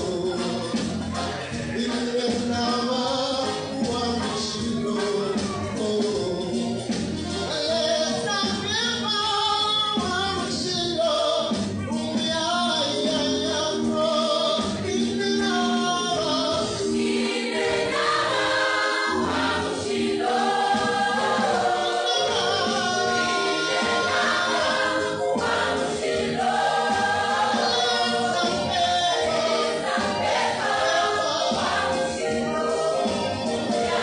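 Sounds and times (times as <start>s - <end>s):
mixed choir singing gospel: 0.0s - 11.6s, 12.2s - 34.0s.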